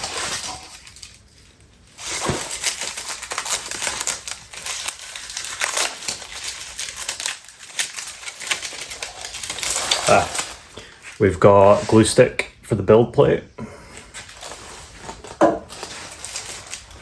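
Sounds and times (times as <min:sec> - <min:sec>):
packaging crinkling and rustling: 0:00.0 - 0:12.1, 0:14.0 - 0:17.0.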